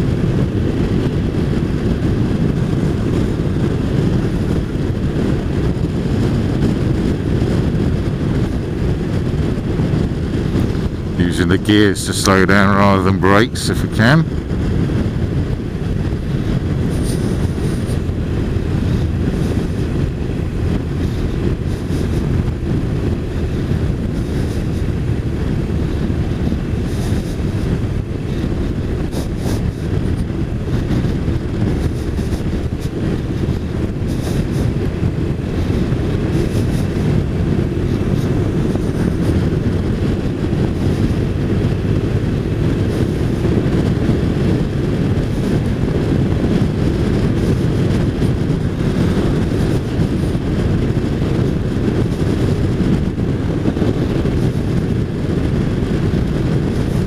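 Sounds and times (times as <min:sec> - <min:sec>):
motorcycle engine: 0:00.0 - 0:57.0
road noise: 0:00.0 - 0:57.0
wind rushing over microphone: 0:00.0 - 0:57.0.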